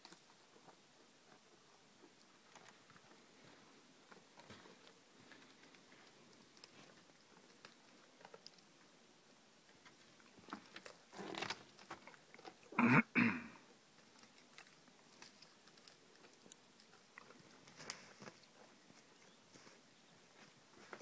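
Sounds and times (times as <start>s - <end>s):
moose chewing twigs: 0.0s - 12.8s, 13.7s - 21.0s.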